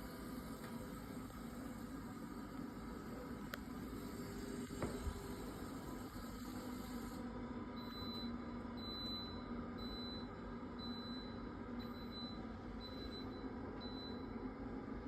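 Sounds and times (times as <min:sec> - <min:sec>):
workshop low hum: 0:00.0 - 0:14.9.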